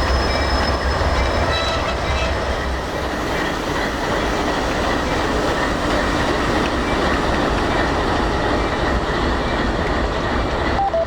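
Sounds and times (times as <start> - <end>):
train wheels rolling on track: 0.0 - 11.0.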